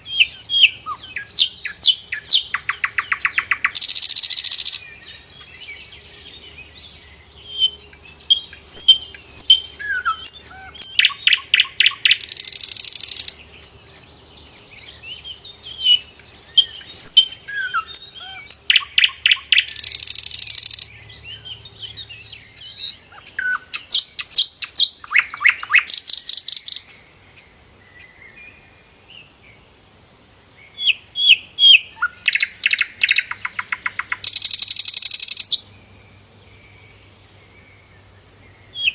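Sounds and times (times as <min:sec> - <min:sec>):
flycatcher singing: 0:00.0 - 0:26.9, 0:30.8 - 0:35.7.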